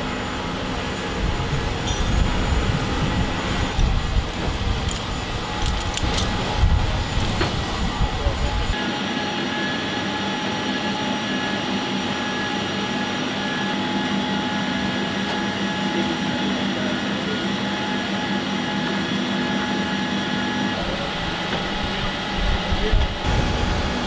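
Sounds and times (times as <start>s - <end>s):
machinery whine and drone: 0.0s - 24.0s.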